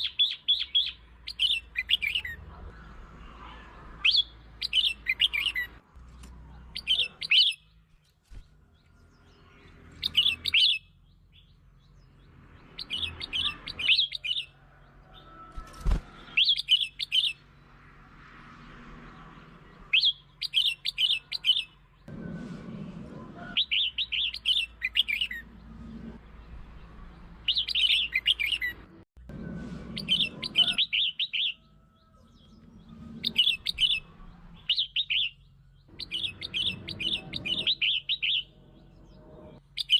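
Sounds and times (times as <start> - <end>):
bulbul singing: 0.0 - 2.4, 4.0 - 17.8, 19.4 - 22.2, 23.5 - 28.9, 29.9 - 39.9.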